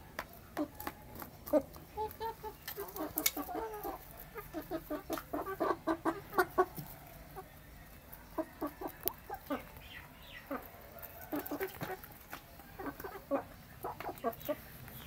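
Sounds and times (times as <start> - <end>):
beaks pecking at food bowl: 0.0 - 15.0
chickens clucking: 0.0 - 15.0.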